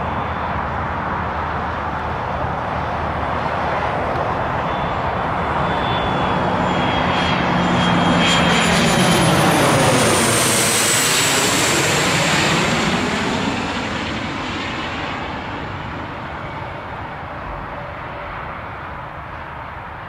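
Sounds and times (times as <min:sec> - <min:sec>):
jet engine whine: 0:00.0 - 0:20.0
jet passing overhead: 0:00.0 - 0:20.0.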